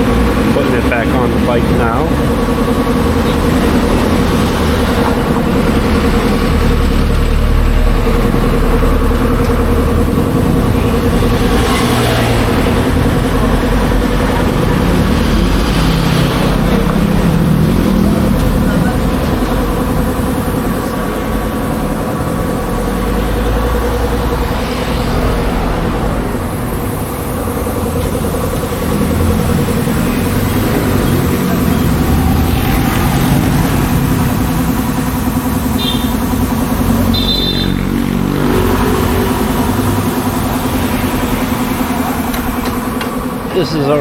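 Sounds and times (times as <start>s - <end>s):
motorcycle: 0.0s - 44.0s
street traffic noise: 0.0s - 44.0s
vehicle engines running: 0.0s - 44.0s.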